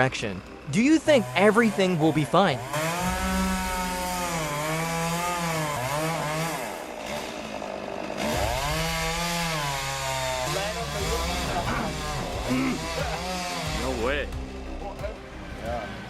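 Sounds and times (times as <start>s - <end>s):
chainsaw cutting wood: 0.0s - 14.8s.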